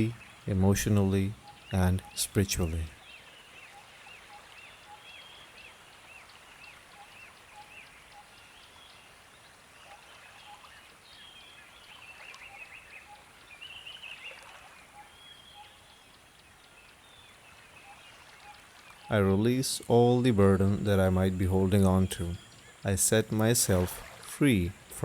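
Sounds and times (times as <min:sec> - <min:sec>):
birds chirping: 0:00.0 - 0:25.0
faint steady hiss: 0:00.0 - 0:25.0.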